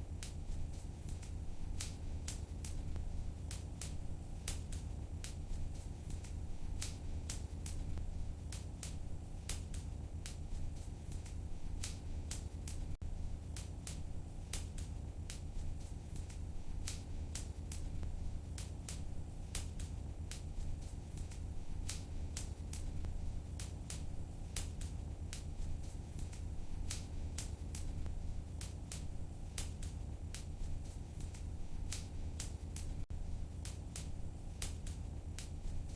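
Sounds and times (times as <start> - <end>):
fire crackling: 0.0 - 35.9
low rumble of flames: 0.0 - 35.9.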